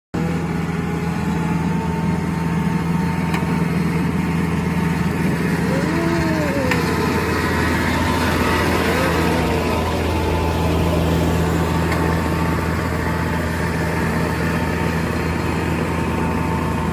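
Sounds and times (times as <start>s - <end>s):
combine harvester diesel engine: 0.2s - 16.9s.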